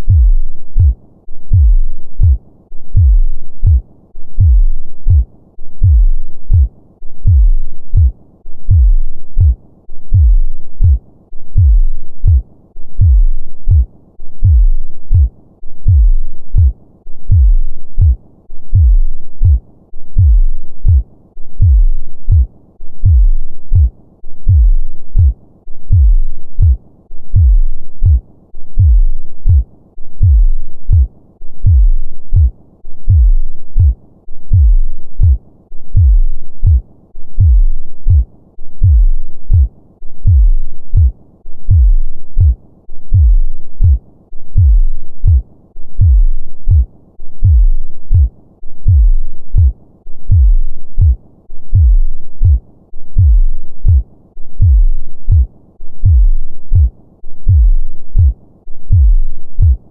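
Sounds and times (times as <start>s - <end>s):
heartbeat thumps: 0.0s - 12.4s, 13.0s - 45.4s, 46.0s - 59.9s.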